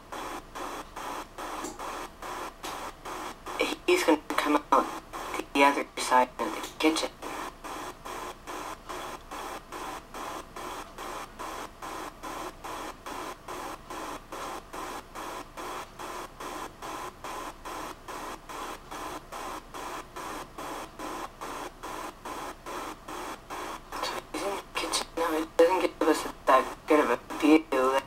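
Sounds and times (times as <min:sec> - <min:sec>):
pulsing hiss: 0:00.0 - 0:28.0.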